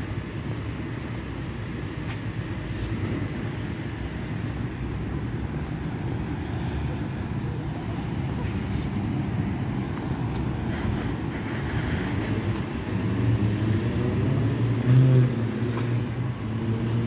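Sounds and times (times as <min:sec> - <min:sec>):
passing vehicles rumbling: 0:00.0 - 0:17.0.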